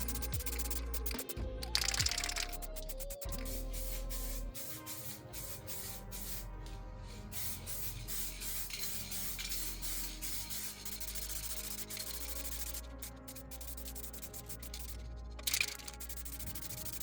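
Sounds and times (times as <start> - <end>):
aerosol spray can hissing: 0.0 - 17.0
background music: 0.0 - 17.0.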